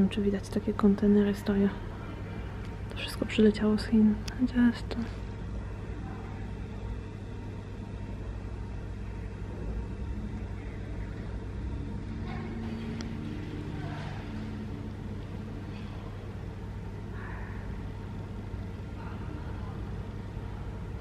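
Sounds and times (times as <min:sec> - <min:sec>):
low rumble of terminal: 0:00.0 - 0:21.0
faint distant voices: 0:00.8 - 0:21.0.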